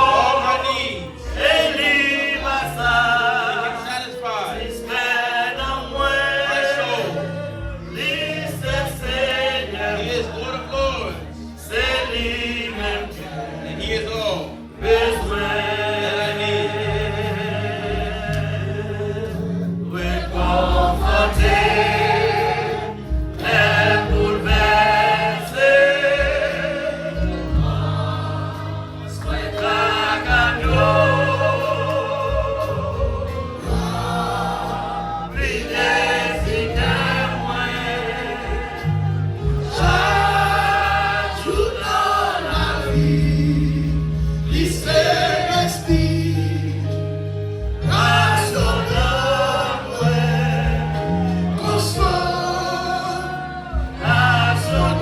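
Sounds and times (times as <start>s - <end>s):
group singing gospel song: 0.0s - 55.0s
sustained instrumental bass notes: 0.0s - 55.0s.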